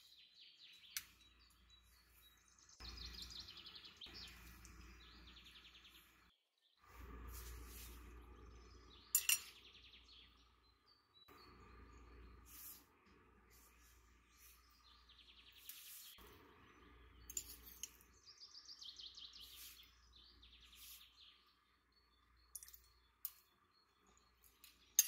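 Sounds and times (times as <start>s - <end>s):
bird chirps and trills: 0.0s - 6.3s, 7.0s - 25.0s.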